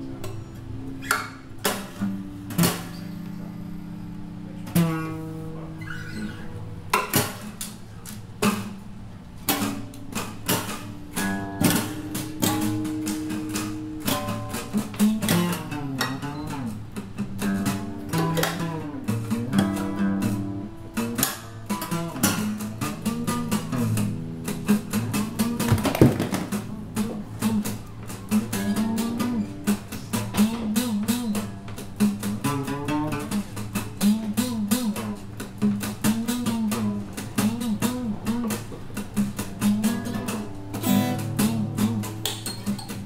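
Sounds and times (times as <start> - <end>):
fingerstyle acoustic guitar: 0.0 - 43.0.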